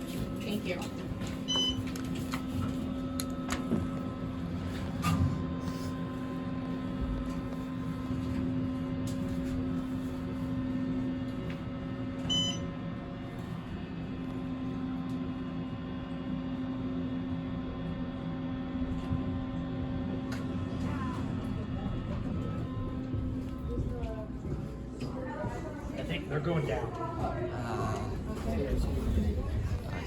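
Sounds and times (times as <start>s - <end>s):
elevator electrical hum: 0.0s - 30.0s.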